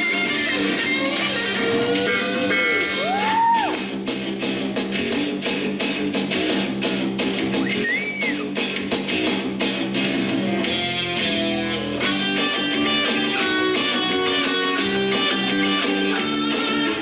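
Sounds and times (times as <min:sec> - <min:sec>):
guitar with sliding notes: 0:00.0 - 0:17.0
steady beat: 0:00.0 - 0:17.0.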